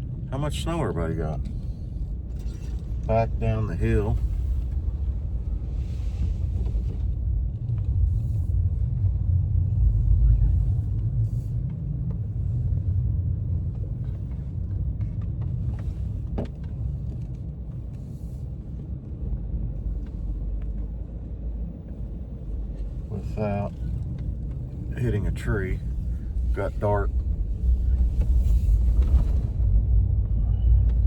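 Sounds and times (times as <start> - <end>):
engine and tyres rumbling: 0.0 - 31.0.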